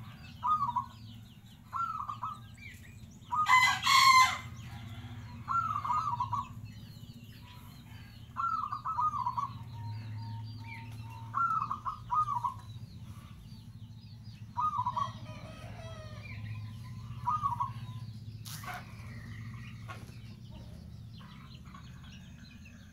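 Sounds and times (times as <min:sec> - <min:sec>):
dove cooing: 0:00.0 - 0:02.5, 0:03.3 - 0:06.7, 0:07.4 - 0:13.6, 0:14.5 - 0:22.7
low steady hum: 0:00.0 - 0:22.9.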